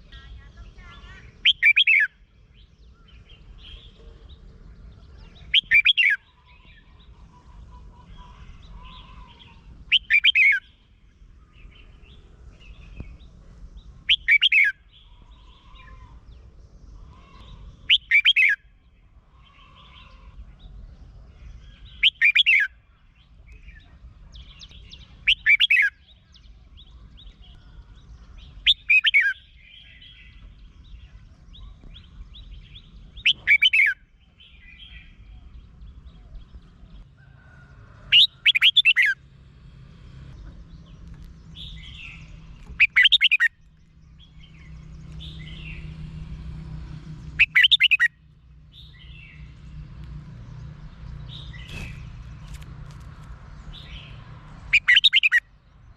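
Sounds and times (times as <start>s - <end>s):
bulbul singing: 0.0s - 37.1s, 38.1s - 39.3s, 40.3s - 49.8s, 53.4s - 55.9s
soft bird chirps: 0.0s - 39.2s, 40.4s - 46.3s, 47.2s - 55.9s.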